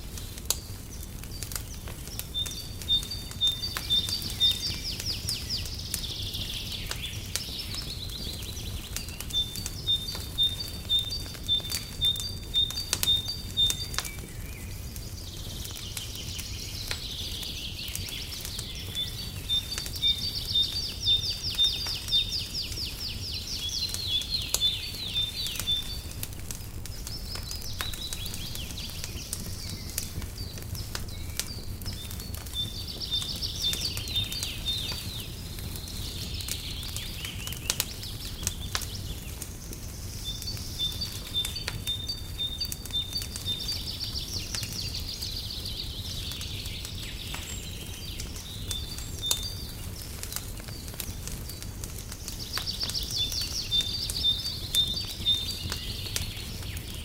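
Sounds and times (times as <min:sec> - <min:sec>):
songbirds chirping and trilling: 0:00.0 - 0:57.0
wood fire crackling: 0:00.0 - 0:57.0.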